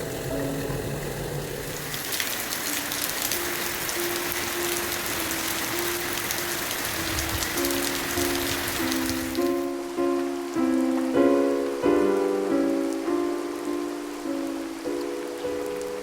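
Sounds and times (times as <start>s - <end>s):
heavy rain pattering: 0.0s - 16.0s
soft piano music: 0.0s - 16.0s.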